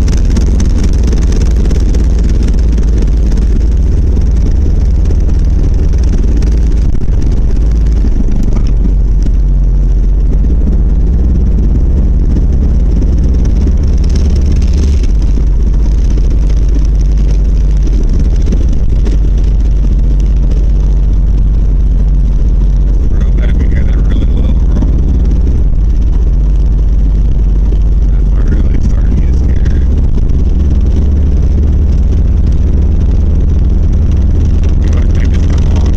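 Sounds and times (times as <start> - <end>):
car engine running: 0.0 - 35.9.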